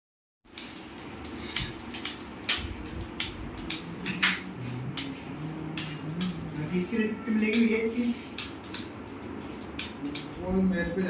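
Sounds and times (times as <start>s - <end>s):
low steady hum: 0.7s - 11.0s.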